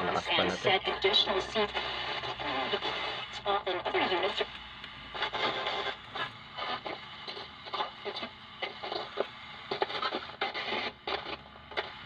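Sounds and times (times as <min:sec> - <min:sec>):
radio broadcast from small speaker: 0:00.0 - 0:12.0.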